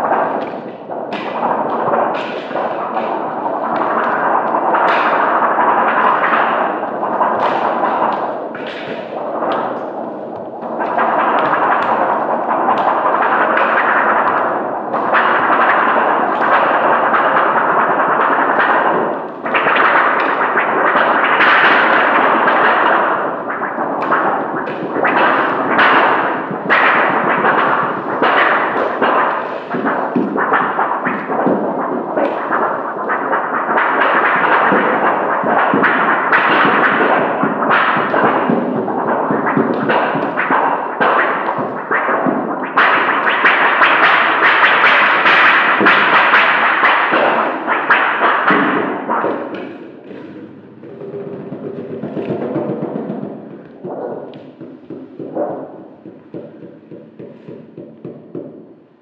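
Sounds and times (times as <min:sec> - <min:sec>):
dense crackling with sharp pops: 0:00.0 - 0:59.0.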